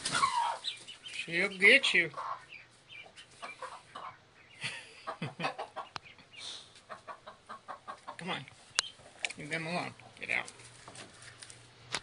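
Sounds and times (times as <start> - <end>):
hen clucking: 0.0 - 11.4.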